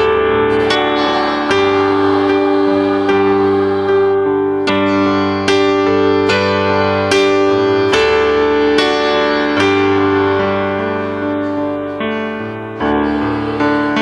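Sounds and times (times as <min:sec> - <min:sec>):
keyboard playing sustained chords: 0:00.0 - 0:14.0.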